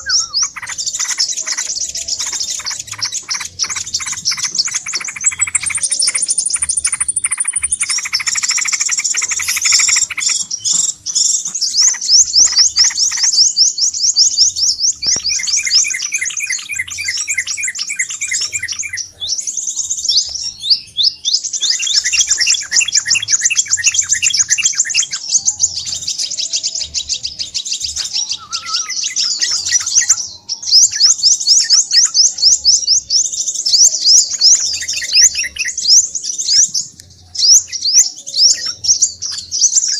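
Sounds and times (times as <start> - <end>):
high-pitched bird chirping trills: 0.0 - 39.9
lower bird chirping: 0.0 - 39.9.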